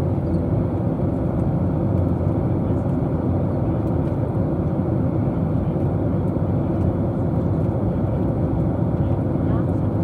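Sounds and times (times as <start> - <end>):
airliner cabin engine rush: 0.0 - 10.0.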